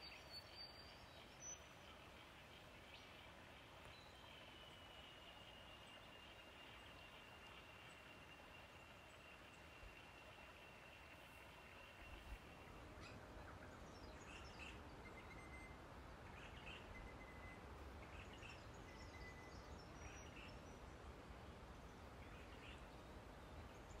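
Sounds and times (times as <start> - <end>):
steady low background noise: 0.0 - 24.0.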